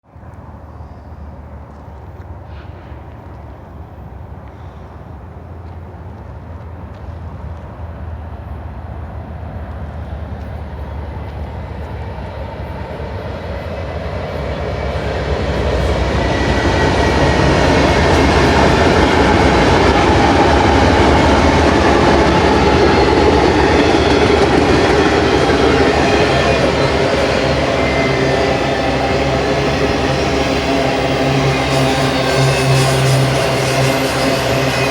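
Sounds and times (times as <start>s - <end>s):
diesel locomotive engine drone: 0.1s - 34.9s
train wheels rolling on rails: 0.2s - 34.9s.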